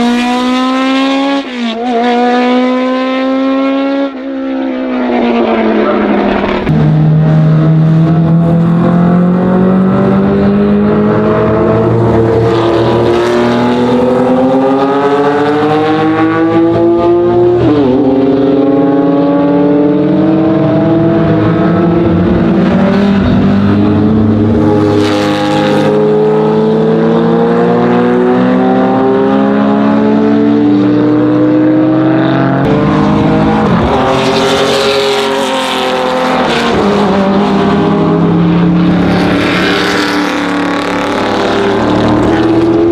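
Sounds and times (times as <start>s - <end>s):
racing car engine at full throttle: 0.0s - 42.9s.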